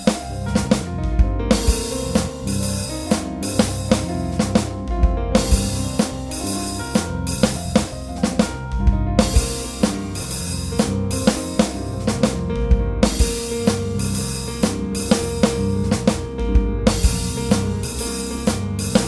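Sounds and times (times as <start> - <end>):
bass line: 0.0 - 19.0
drum kit beat: 0.0 - 19.0.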